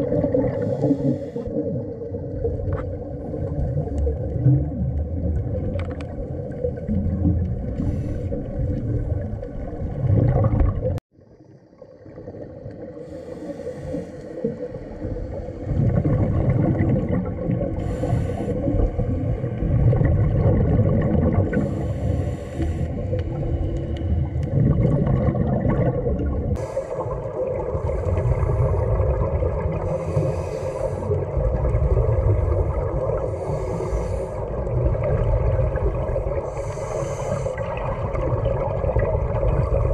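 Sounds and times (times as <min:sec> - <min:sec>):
exhaled bubbles hissing: 0:00.0 - 0:39.9
muffled underwater rumble and hum: 0:00.0 - 0:39.9.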